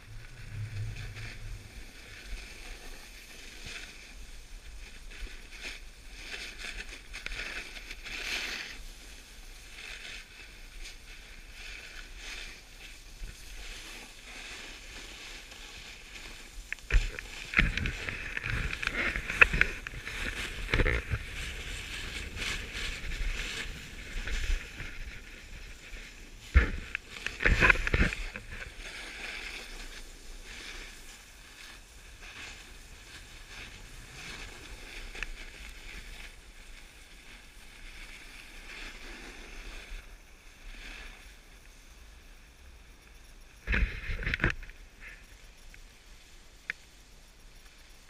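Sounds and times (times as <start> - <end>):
snowboard scraping over snow: 0.0 - 45.7.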